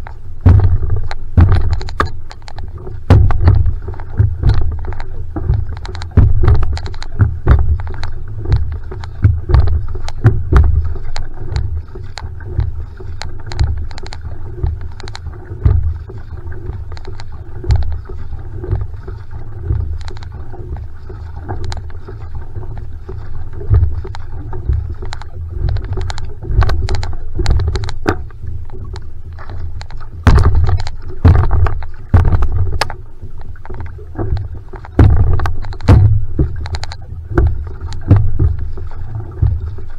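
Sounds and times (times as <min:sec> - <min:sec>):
continuous low rumble: 0:00.0 - 0:39.9
paddle splashing in water: 0:00.0 - 0:39.9.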